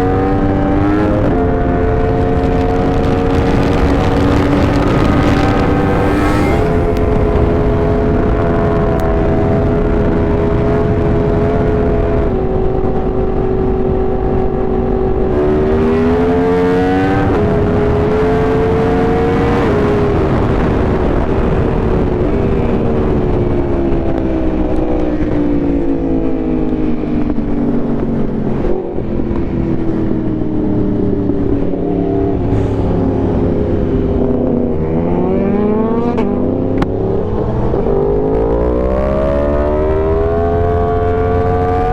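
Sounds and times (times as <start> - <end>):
motorcycle engine revving: 0.0 - 26.0, 26.9 - 41.9
wind rush: 0.0 - 26.3, 27.0 - 41.9.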